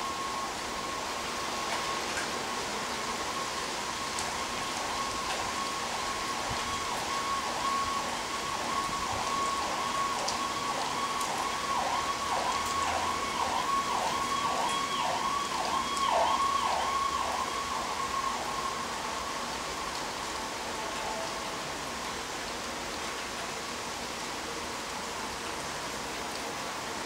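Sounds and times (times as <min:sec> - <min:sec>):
emergency siren wailing: 0:00.0 - 0:22.0
rain hissing: 0:00.0 - 0:27.0.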